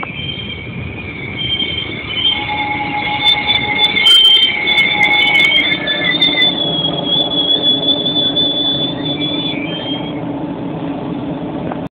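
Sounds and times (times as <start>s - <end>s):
steel wheels squealing: 0.0s - 10.3s
train cars running noise: 0.0s - 11.9s.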